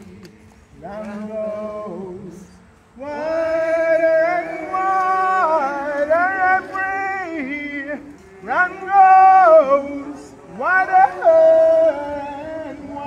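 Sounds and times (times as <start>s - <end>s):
voices singing held notes: 0.0s - 13.0s.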